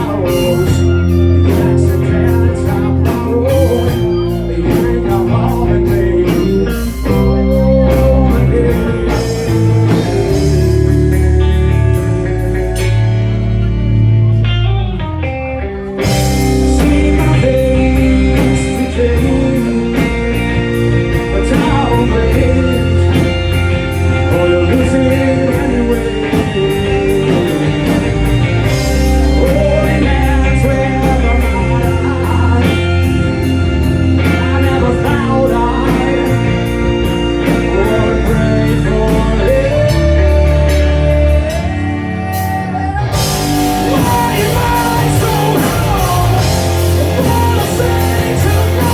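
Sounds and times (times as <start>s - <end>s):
person singing lead vocal: 0.0s - 14.6s, 15.8s - 48.9s
rock band playing: 0.0s - 48.9s.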